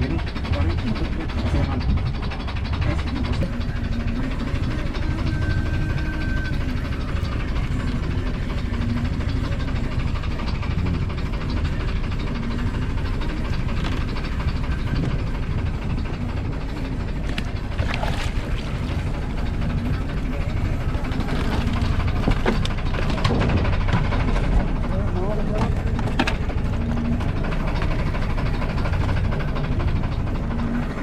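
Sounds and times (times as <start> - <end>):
boat engine rumble: 0.0 - 31.0.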